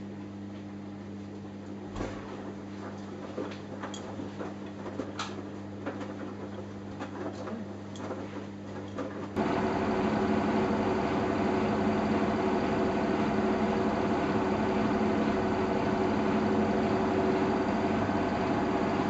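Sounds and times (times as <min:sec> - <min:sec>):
washing machine running: 0:00.8 - 0:19.0.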